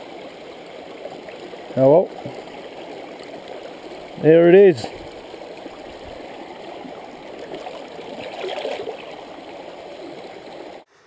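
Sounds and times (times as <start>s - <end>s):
stream running over stones: 0.0s - 10.9s.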